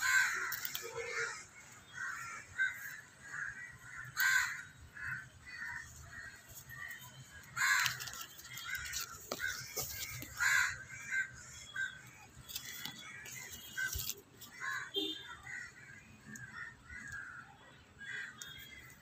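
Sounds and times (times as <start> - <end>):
crows cawing: 0.0 - 18.9.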